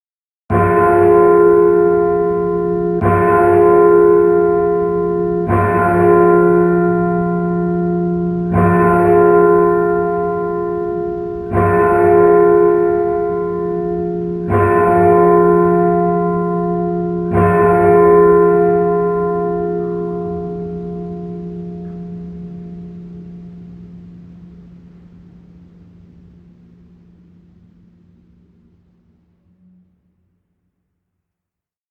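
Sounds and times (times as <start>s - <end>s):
large church bell tolling: 0.5s - 30.3s.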